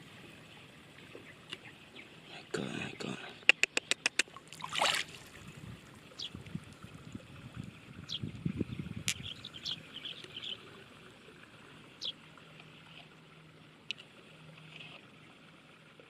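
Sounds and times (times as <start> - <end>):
trickling water: 0.0 - 3.2, 3.9 - 16.0.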